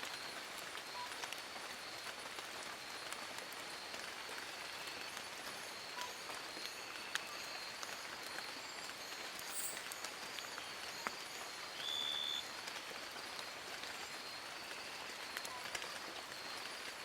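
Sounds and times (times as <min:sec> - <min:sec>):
rain on leaves: 0:00.0 - 0:17.0.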